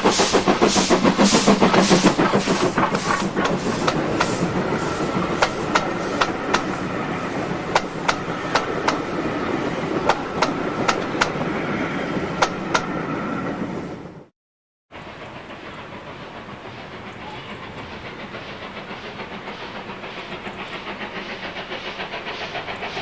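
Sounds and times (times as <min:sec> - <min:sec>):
train wheels clicking over rail joints: 0:00.0 - 0:13.6, 0:15.1 - 0:23.0
train rumble: 0:00.0 - 0:14.3, 0:14.9 - 0:23.0.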